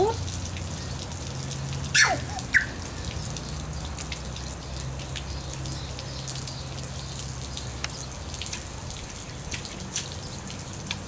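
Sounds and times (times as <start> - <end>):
sprinkler water pattering on concrete: 0.0 - 11.0.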